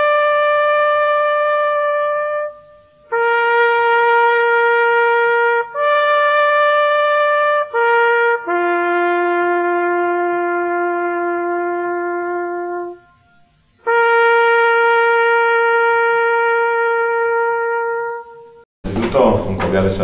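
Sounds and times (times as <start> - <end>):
solo bugle playing military call: 0.0 - 18.6.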